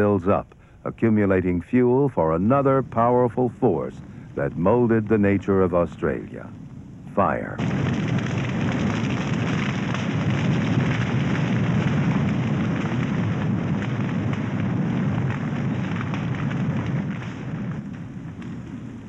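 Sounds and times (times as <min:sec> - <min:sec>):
forest fire roaring and crackling: 0:00.0 - 0:19.0.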